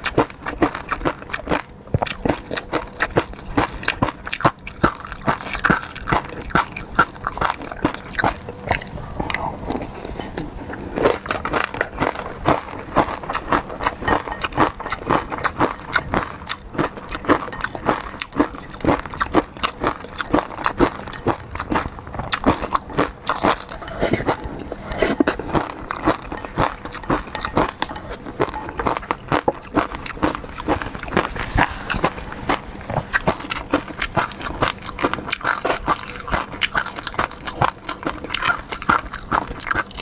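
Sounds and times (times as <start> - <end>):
chewing and crunching seafood: 0.0 - 40.0.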